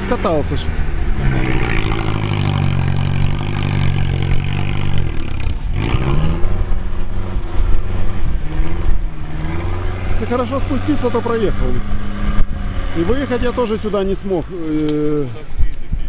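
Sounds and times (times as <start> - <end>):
car engine revving under load: 0.0 - 15.5.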